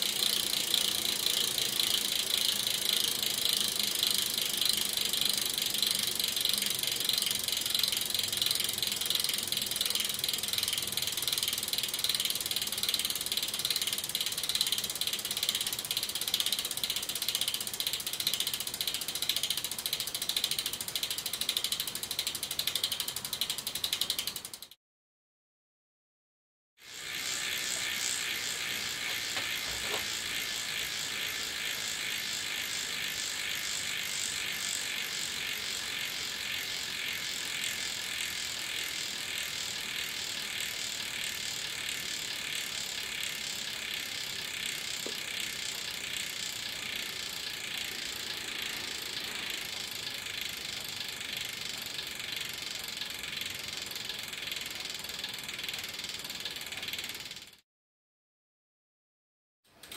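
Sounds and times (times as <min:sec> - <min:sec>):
bicycle freehub clicking: 0:00.0 - 0:24.8, 0:26.8 - 0:57.6, 0:59.7 - 0:59.9.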